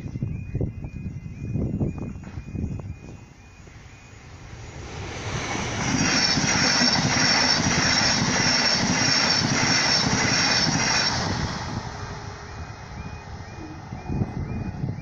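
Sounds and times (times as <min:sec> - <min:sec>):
electric train passing at speed: 0:00.0 - 0:15.0
even pulsing of wheels: 0:00.0 - 0:15.0.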